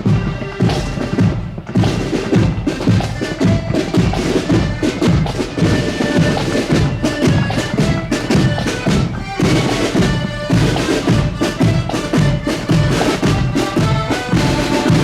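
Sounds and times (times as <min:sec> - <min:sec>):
accordions playing march: 0:00.0 - 0:15.0
snare drums: 0:00.0 - 0:15.0.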